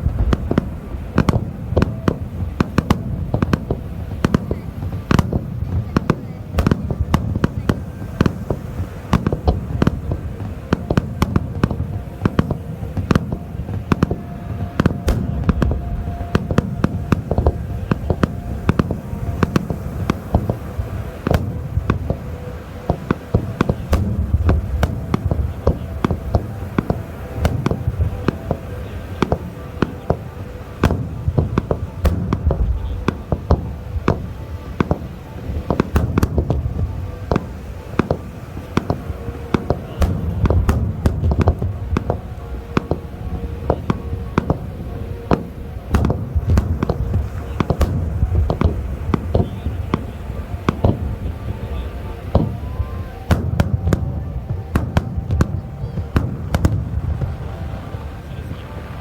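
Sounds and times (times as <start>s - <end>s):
deep rolling rumble: 0.0s - 59.0s
fireworks bangs: 0.0s - 59.0s.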